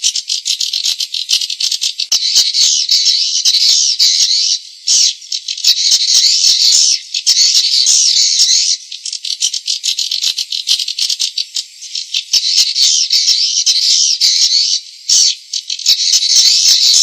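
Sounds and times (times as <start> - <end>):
high-pitched bird twittering: 0.0 - 17.0.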